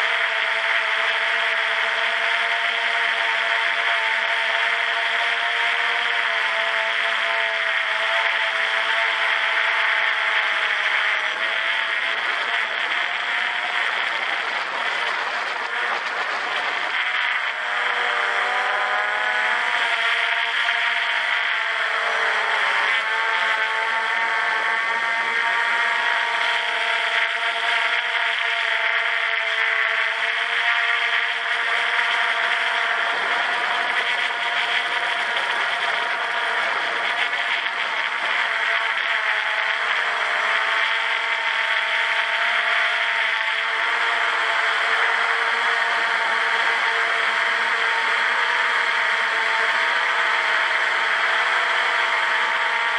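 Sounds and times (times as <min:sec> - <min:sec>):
drone propellers buzzing: 0:00.0 - 0:52.9.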